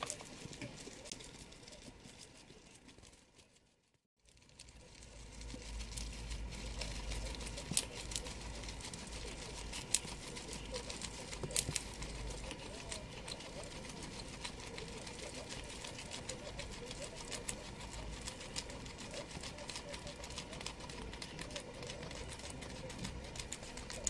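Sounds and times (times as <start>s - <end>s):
guinea pig chewing leaves: 0.0s - 24.0s.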